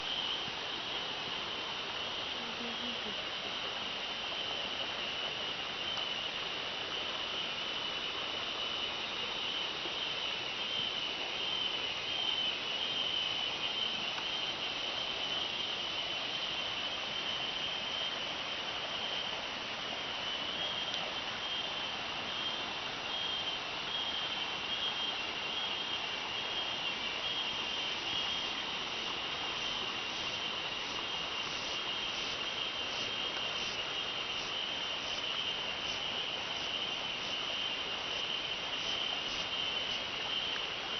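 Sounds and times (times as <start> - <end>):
high-pitched insect trill: 0.0 - 40.9.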